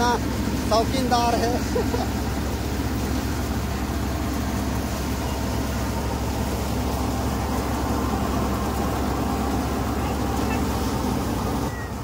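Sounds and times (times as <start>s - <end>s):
thresher machine drone: 0.0s - 12.0s.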